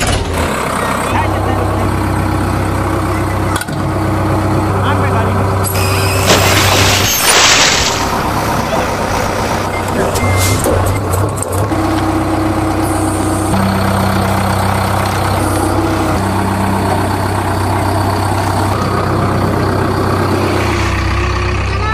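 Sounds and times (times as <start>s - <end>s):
truck engine idling: 0.0s - 7.2s, 8.0s - 21.9s.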